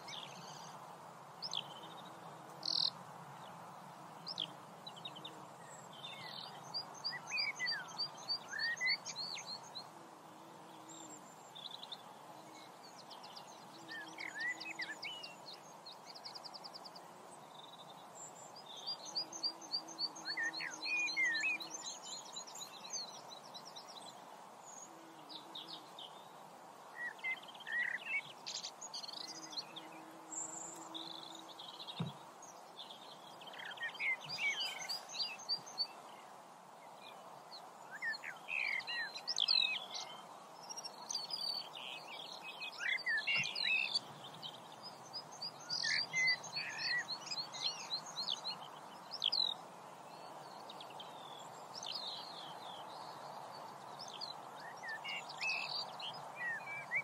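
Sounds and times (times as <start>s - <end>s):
background hiss: 0.0s - 57.0s
small birds chirping: 0.0s - 57.0s.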